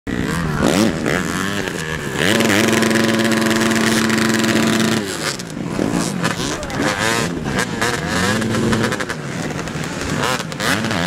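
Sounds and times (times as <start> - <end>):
dirt bike engines revving: 0.1 - 11.0.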